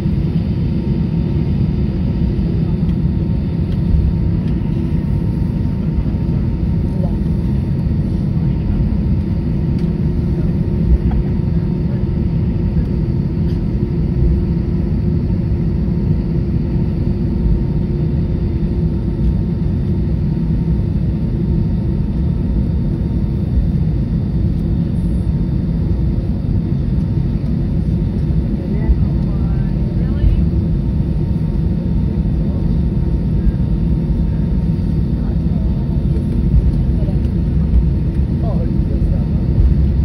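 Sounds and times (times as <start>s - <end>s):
airliner engine rumble: 0.0s - 40.0s.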